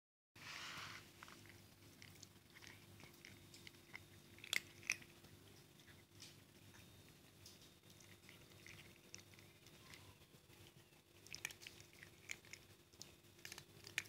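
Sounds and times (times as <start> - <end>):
cats crunching dry kibble: 1.0 - 14.0.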